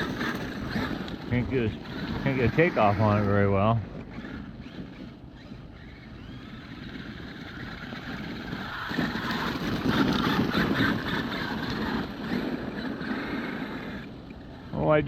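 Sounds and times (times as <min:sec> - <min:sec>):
toy truck driving over icy ground: 0:00.0 - 0:15.0.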